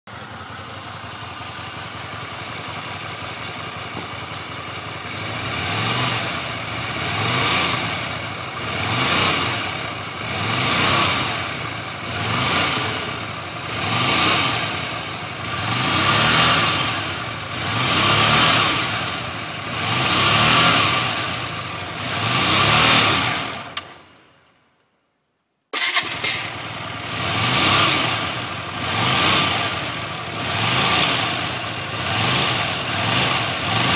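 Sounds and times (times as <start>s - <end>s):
motorcycle engine revving: 0.1s - 23.8s, 25.8s - 33.9s.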